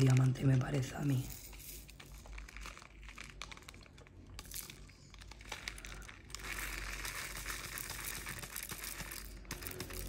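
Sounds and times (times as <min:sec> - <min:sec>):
small plastic beads rattling in tray: 0:00.0 - 0:10.0.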